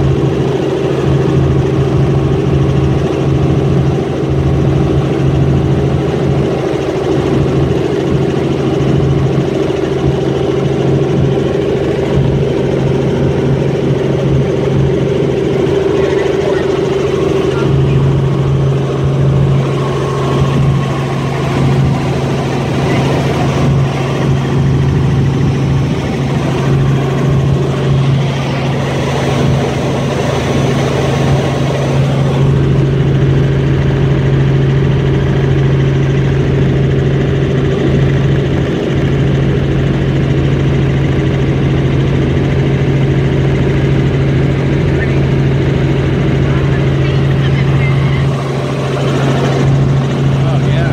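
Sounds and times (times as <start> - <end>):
helicopter engine and rotors drone: 0.0 - 50.9.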